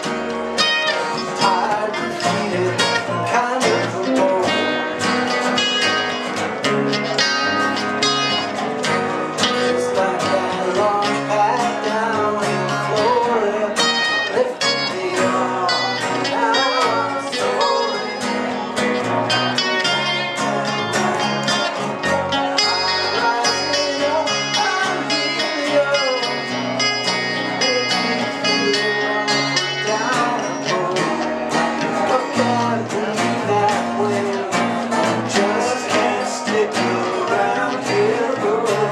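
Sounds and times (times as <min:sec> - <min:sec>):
acoustic guitar: 0:00.0 - 0:38.9
dobro playing: 0:00.0 - 0:38.9.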